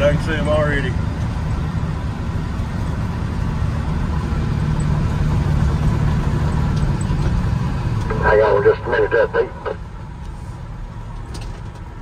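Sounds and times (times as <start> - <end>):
diesel truck engine driving: 0.0 - 12.0
road noise: 0.0 - 12.0.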